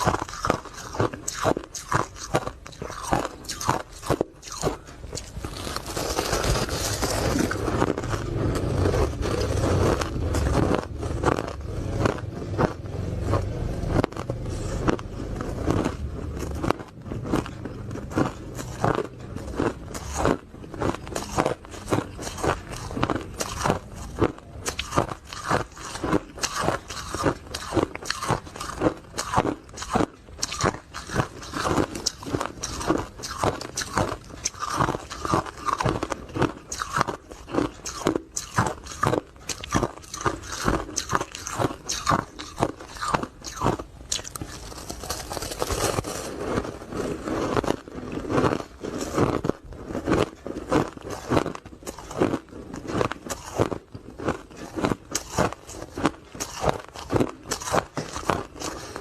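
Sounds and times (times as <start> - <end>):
ice cubes crunching in mouth: 0.0 - 59.0.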